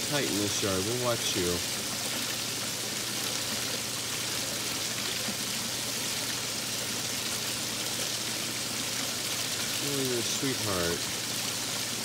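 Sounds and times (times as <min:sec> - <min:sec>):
water running in a trough: 0:00.0 - 0:12.0.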